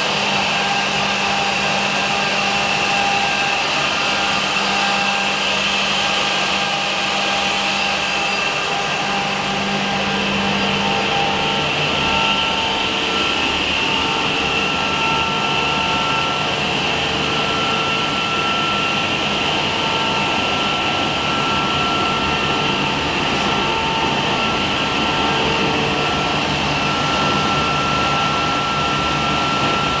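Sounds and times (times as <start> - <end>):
machine motors whirring: 0.0 - 30.0
thin whining tones: 0.4 - 30.0.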